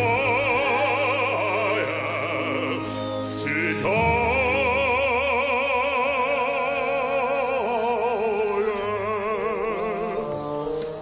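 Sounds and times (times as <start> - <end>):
operatic baritone singing: 0.0 - 11.0.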